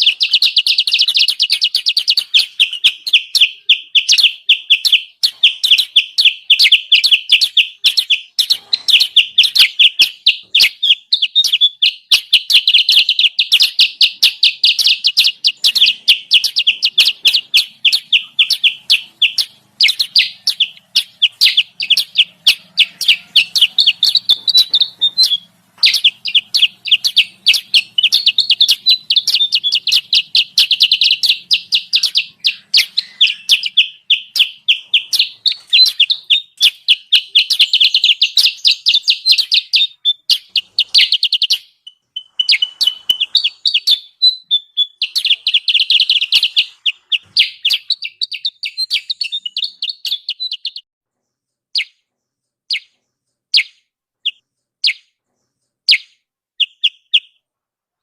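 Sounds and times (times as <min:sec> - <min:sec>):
bird chirping rapidly: 0:00.0 - 0:57.5.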